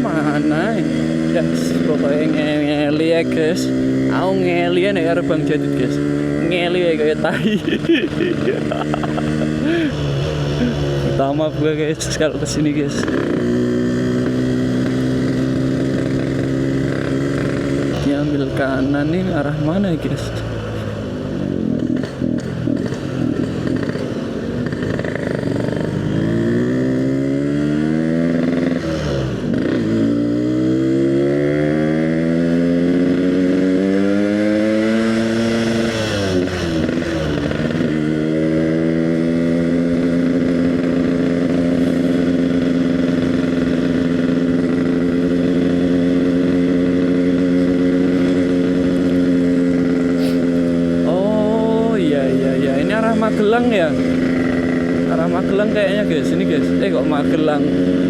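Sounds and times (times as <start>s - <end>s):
motorcycle accelerating through gears: 0.0s - 58.0s.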